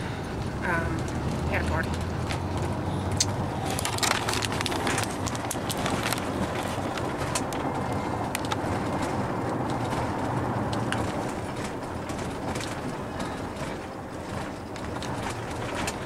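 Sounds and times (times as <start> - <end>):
engine and road hum: 0.0 - 16.0.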